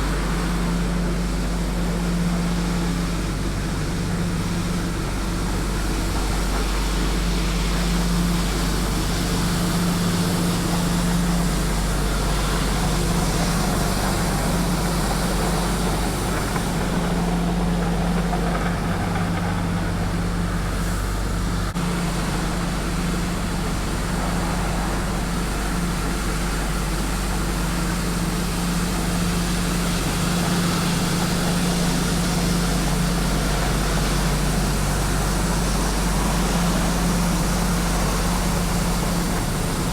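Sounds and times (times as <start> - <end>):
street sweeper running: 0.0 - 39.9.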